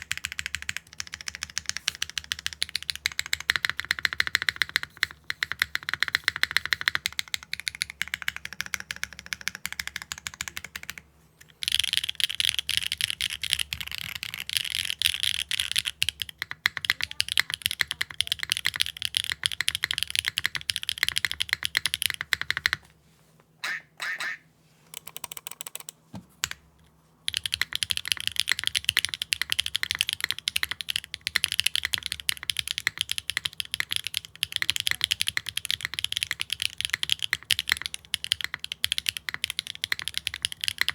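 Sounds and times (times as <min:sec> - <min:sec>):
typing on mechanical keyboard: 0:00.0 - 0:22.8, 0:24.9 - 0:26.6, 0:27.2 - 0:40.9.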